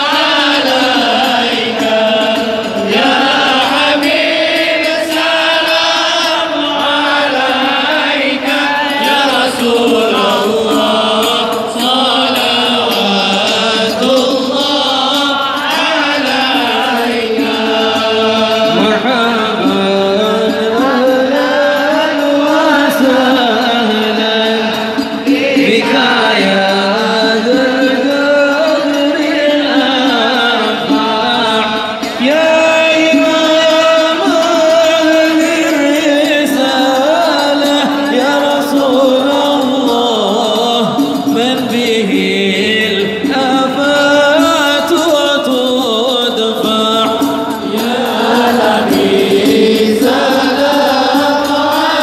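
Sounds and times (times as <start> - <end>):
crowd singing a devotional chant: 0.0 - 52.0.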